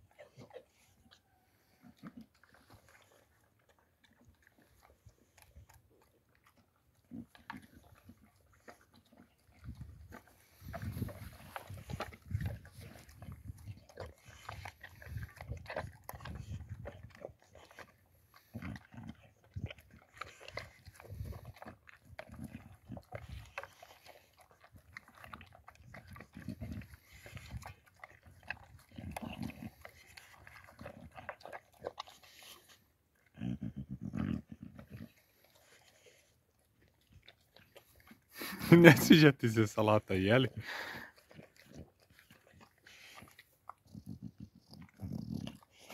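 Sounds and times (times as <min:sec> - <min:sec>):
dog crunching kibble: 0:01.8 - 0:38.5, 0:40.4 - 0:45.9.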